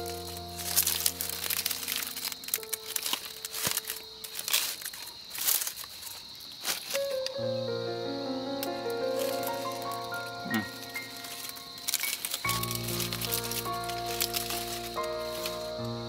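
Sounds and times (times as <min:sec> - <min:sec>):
soft background music: 0:00.0 - 0:04.6, 0:07.0 - 0:16.0
leaf wrapping crinkling and tearing: 0:00.0 - 0:07.4, 0:08.6 - 0:16.0.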